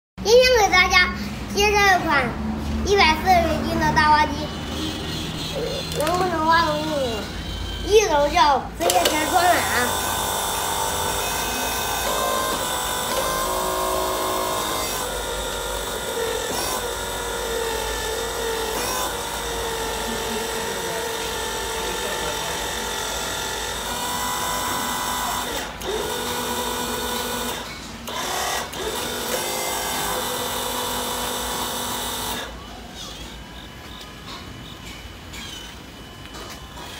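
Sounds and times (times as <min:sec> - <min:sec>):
toy excavator electric motors whining: 0:04.8 - 0:34.4.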